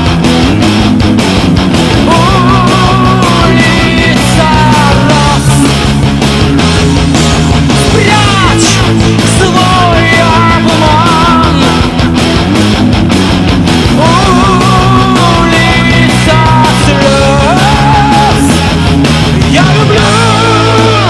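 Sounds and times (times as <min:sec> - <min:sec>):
live heavy metal band: 0:00.0 - 0:21.0
wavering lead guitar melody: 0:00.0 - 0:21.0.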